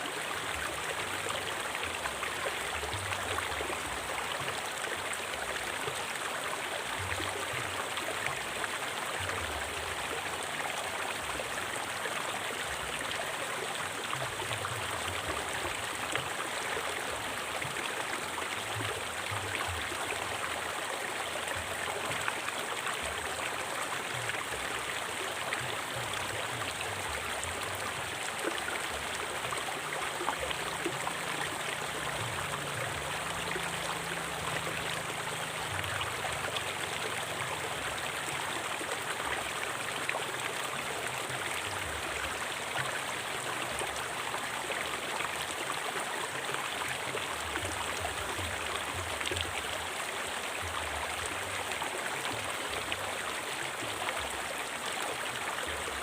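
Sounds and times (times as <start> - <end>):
river water rushing and babbling: 0.0 - 56.0.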